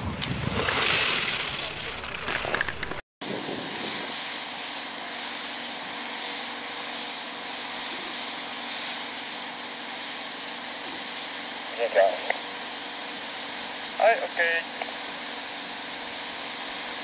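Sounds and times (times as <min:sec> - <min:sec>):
snow gun fan hiss: 0:01.2 - 0:17.0.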